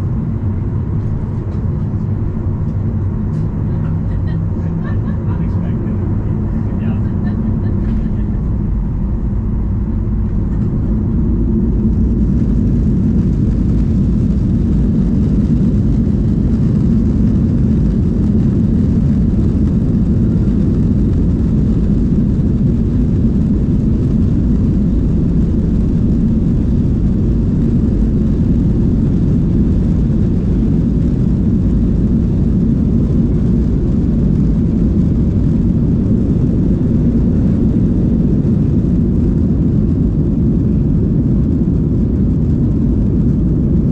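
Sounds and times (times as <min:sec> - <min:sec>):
jet engine cabin rumble: 0:00.0 - 0:43.9.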